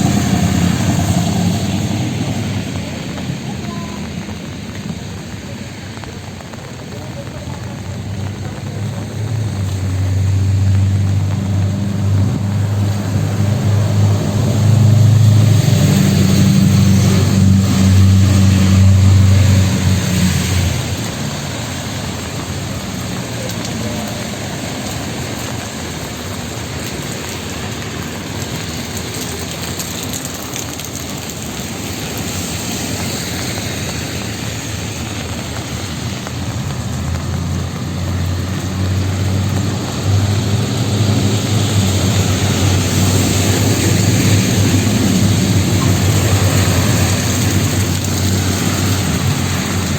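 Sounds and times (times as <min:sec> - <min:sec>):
rain hissing: 0:00.0 - 0:49.9
street traffic: 0:00.0 - 0:49.9
vehicle engine running: 0:00.0 - 0:49.9.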